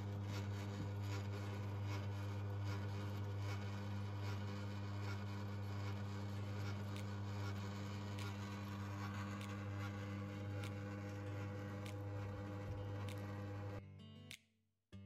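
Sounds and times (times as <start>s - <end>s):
low motor hum: 0.0s - 13.8s.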